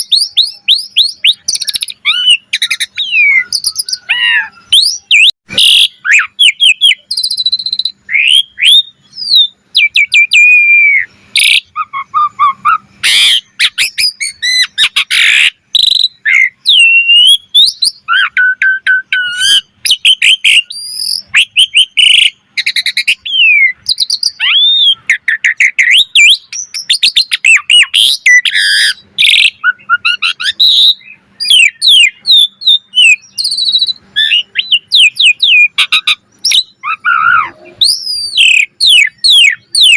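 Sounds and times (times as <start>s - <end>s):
starling singing varied song: 0.0s - 39.9s.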